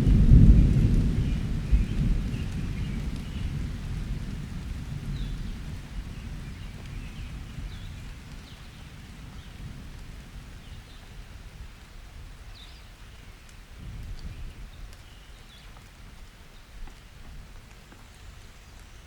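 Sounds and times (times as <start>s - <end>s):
low thunder rumble: 0.0s - 16.0s
steady rain: 0.0s - 19.0s.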